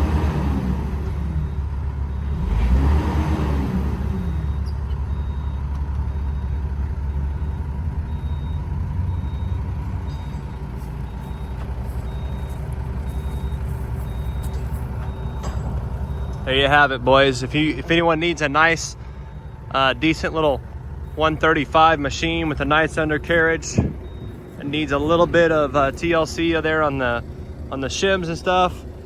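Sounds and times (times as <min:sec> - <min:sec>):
excavator diesel engine running: 0:00.0 - 0:29.0
high warning alarm beeps: 0:04.2 - 0:29.0.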